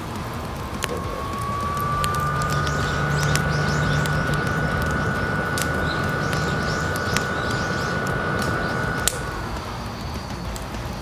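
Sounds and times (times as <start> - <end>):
burning wood popping: 0.0 - 11.0
fan whine: 0.0 - 11.0.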